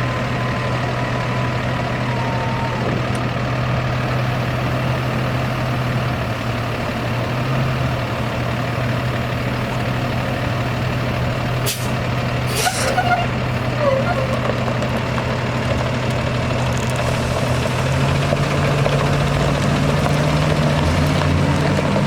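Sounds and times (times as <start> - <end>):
diesel truck idling: 0.0 - 22.0.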